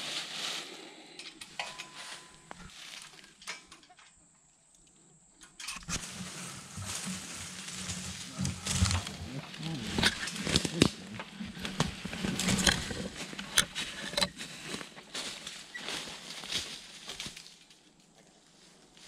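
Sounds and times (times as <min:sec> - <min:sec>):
brush and leaves rustling: 0:00.0 - 0:03.6, 0:05.6 - 0:19.0.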